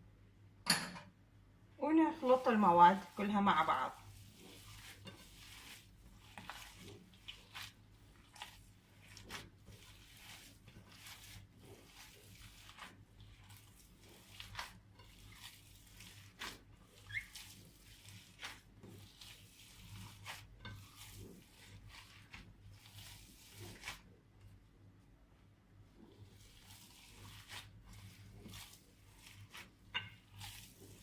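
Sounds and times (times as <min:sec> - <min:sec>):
hands kneading wet meat: 0:01.8 - 0:31.0.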